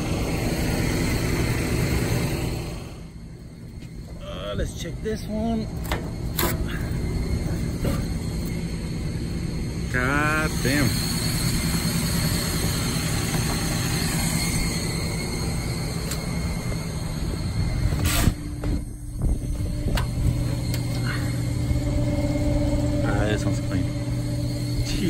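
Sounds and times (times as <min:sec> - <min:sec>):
hvac units droning: 0:00.0 - 0:25.0.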